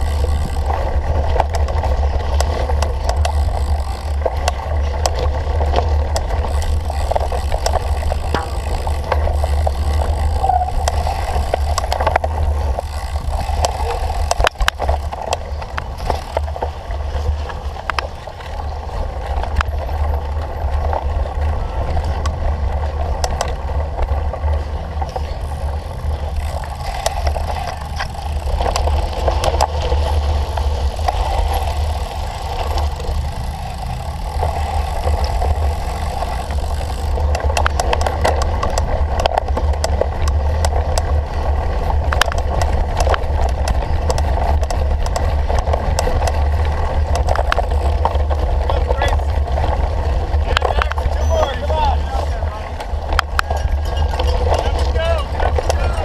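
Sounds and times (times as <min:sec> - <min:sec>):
bicycle rattling: 0:00.0 - 0:56.0
tyres on rough ground: 0:00.0 - 0:56.0
wind rumble on microphone: 0:00.0 - 0:56.0.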